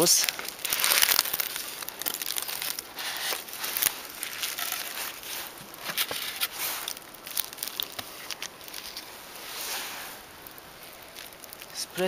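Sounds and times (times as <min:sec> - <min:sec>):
polystyrene board scraping: 0:00.0 - 0:11.6
plastic sheeting crinkling: 0:00.0 - 0:12.0
small clicks and crackles: 0:00.0 - 0:12.0.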